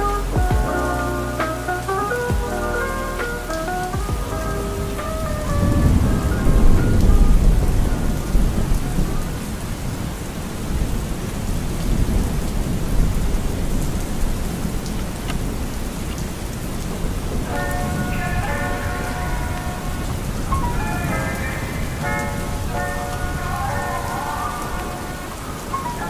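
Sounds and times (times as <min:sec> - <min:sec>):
steady rain: 0:00.0 - 0:26.0
low roll of thunder: 0:02.3 - 0:26.0.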